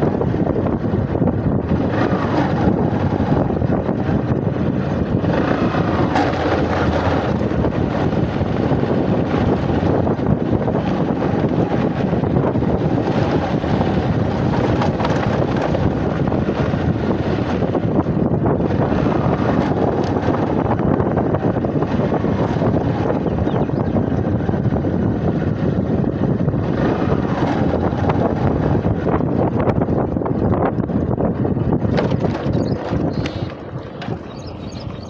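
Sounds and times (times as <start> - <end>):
motorcycle engine running: 0.0 - 35.0
wind noise on microphone: 0.0 - 35.0.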